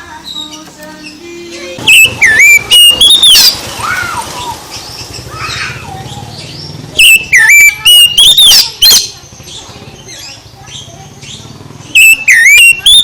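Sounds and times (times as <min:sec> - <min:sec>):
bird chattering: 0:00.1 - 0:13.0
bird whistling song: 0:00.2 - 0:03.6, 0:04.4 - 0:13.0.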